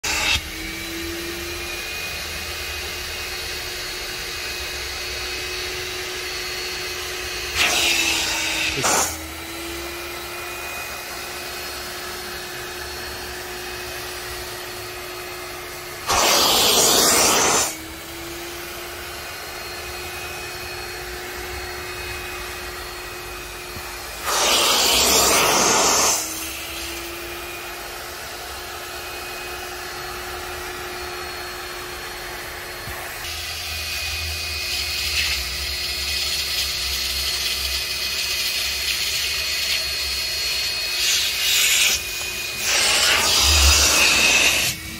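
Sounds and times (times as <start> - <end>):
air rushing through vacuum tool: 0.0 - 3.6, 4.3 - 44.9
upholstery vacuum humming: 0.0 - 44.9.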